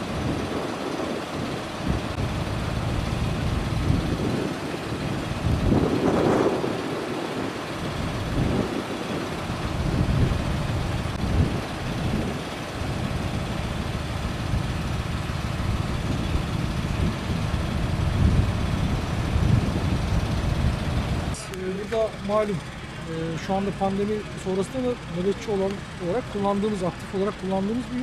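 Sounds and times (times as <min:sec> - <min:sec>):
heavy vehicle engine idling: 0:00.0 - 0:28.0.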